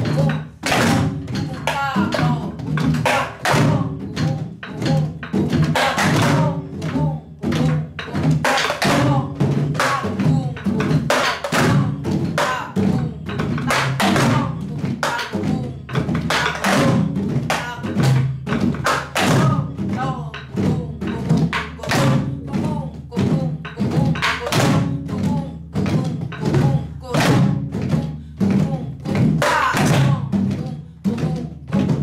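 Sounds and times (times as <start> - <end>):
person singing: 0.0 - 16.9, 19.2 - 32.0
barrel drums beaten with sticks: 0.0 - 32.0.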